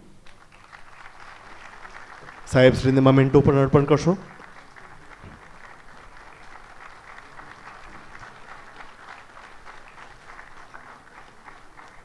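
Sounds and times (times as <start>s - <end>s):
audience applauding: 0.2s - 12.0s.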